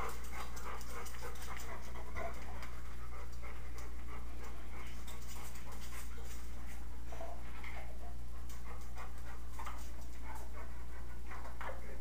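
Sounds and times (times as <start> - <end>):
dog panting: 0.0 - 12.0
steady low hum: 0.0 - 12.0.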